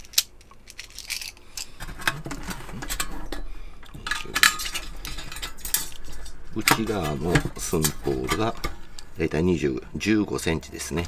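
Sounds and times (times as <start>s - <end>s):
metal clinking and scraping: 0.0s - 8.9s.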